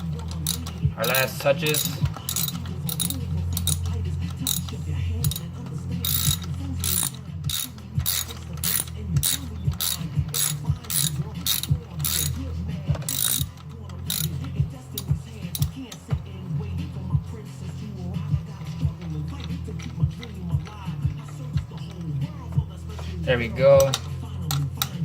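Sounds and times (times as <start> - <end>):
ratchet wrench clicking: 0.0 - 25.0.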